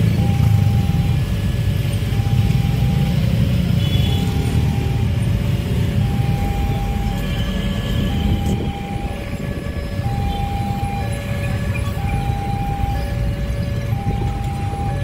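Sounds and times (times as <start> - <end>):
level crossing warning tone: 0.0 - 15.0
vehicles idling: 0.0 - 15.0.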